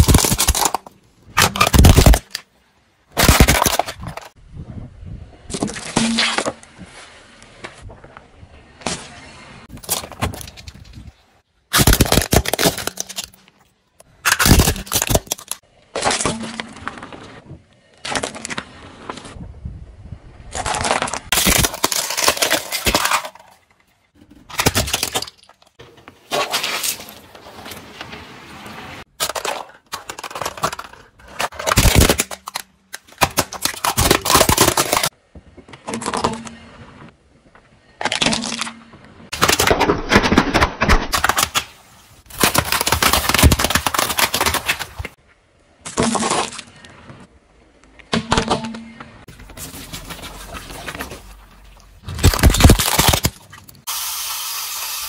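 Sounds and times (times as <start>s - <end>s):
tyres crushing objects: 0.0s - 4.4s, 9.7s - 19.4s, 20.5s - 37.2s, 37.9s - 45.2s, 45.8s - 47.3s, 48.0s - 53.9s.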